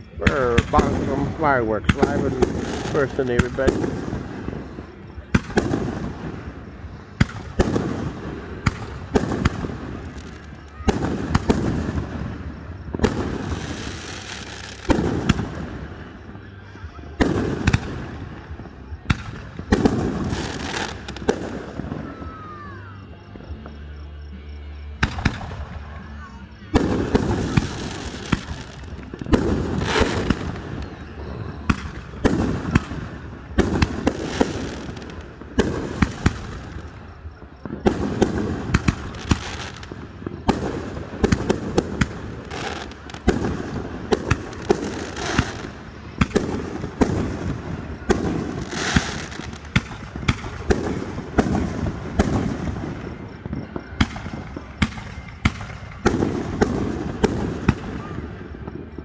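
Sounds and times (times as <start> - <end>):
firework crackles: 0.0 - 59.0
fireworks bursting: 0.0 - 59.0.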